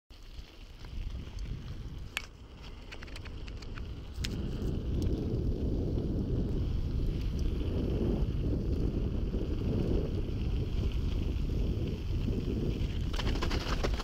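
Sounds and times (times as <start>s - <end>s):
bike tyres rolling on gravel: 0.1s - 14.0s
wind buffeting microphone: 0.3s - 14.0s.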